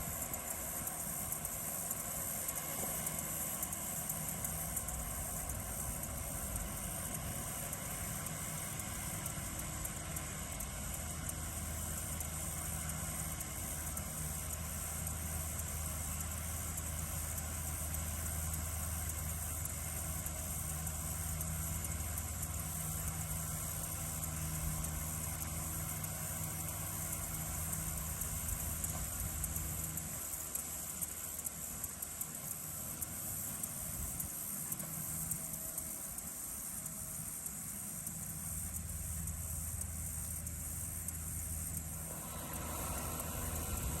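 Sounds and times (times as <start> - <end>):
crickets chirring: 0.0 - 44.0
tractor engine running: 0.0 - 44.0.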